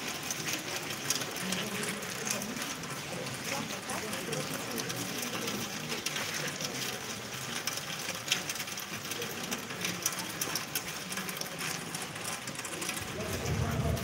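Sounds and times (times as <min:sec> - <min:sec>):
low background murmur: 0:00.0 - 0:14.0.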